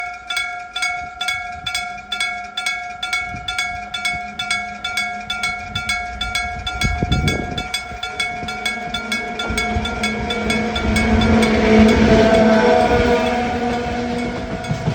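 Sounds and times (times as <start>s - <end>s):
level crossing bell ringing: 0.0s - 14.9s.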